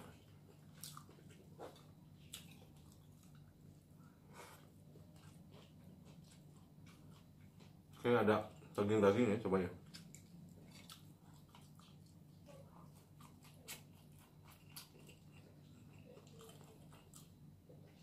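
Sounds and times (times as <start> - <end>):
person chewing food: 0.0 - 8.8, 9.8 - 18.0
low steady hum: 0.0 - 18.0.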